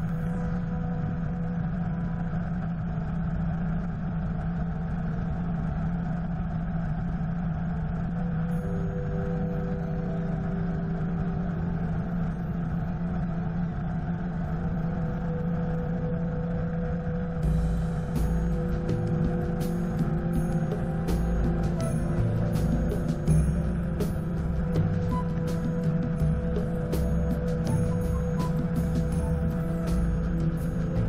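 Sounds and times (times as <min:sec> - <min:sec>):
helicopter engine and rotor drone: 0:00.0 - 0:31.0.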